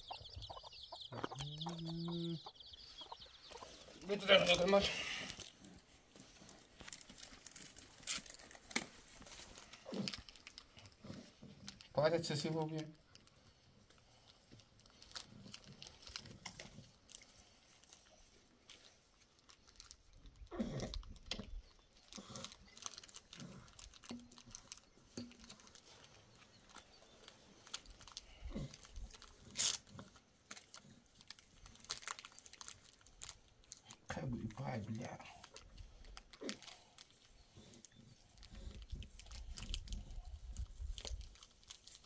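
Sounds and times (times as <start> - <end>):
clicks rustles and crunching: 0.0 - 42.0.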